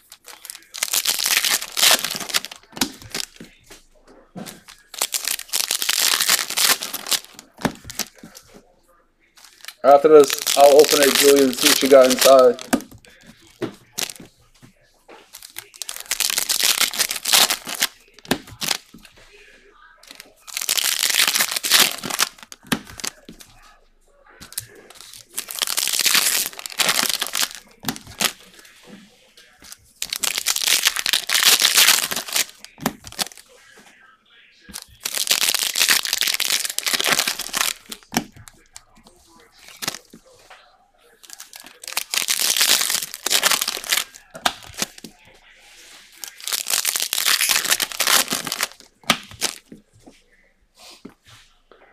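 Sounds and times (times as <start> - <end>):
foil wrappers crinkling and tearing: 0.0 - 8.6, 9.4 - 14.4, 15.2 - 23.8, 24.4 - 33.8, 34.6 - 40.4, 41.1 - 50.0.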